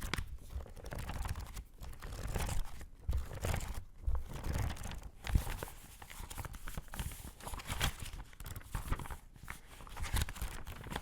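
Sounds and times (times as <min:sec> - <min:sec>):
book pages rustling: 0:00.0 - 0:11.0.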